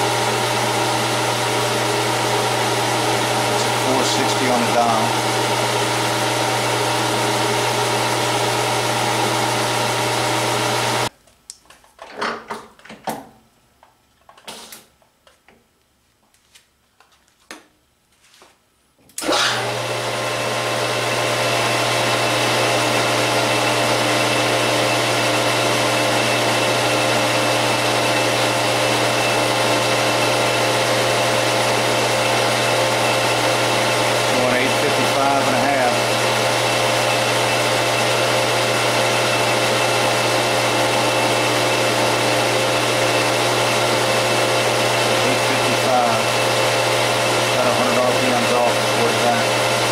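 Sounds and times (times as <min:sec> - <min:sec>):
metal lathe running: 0:00.0 - 0:11.1, 0:19.2 - 0:49.9.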